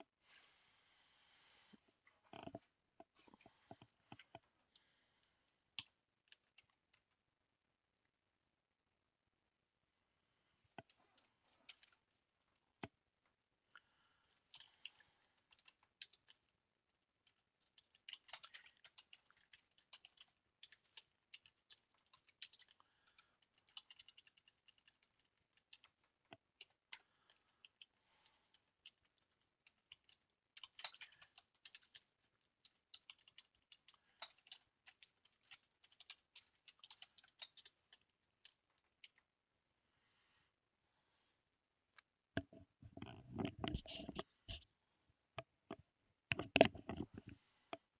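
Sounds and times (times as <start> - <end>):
faint keyboard typing: 2.3 - 7.2, 10.7 - 39.3, 41.9 - 44.7, 45.4 - 47.9.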